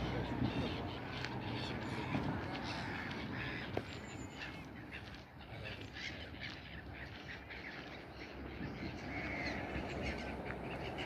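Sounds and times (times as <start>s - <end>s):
birds chirping and calling: 0.0s - 11.0s.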